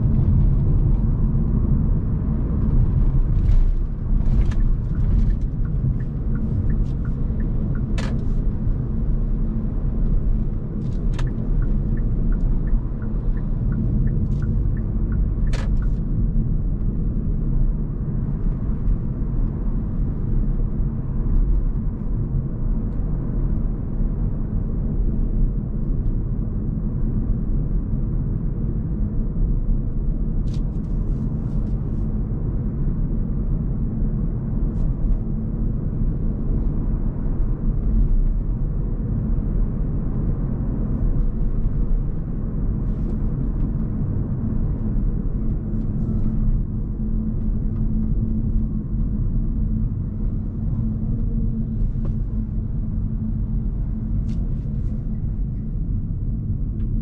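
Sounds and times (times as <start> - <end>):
road and tyre noise: 0.0 - 57.0.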